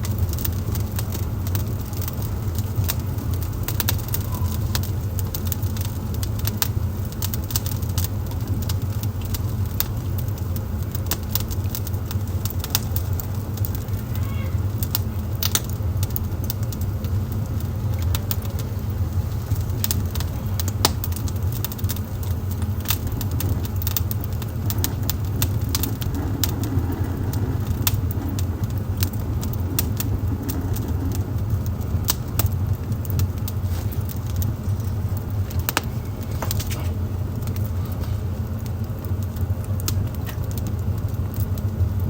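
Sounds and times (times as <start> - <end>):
fire low rumble: 0.0 - 42.0
wood fire crackling and popping: 0.0 - 42.0.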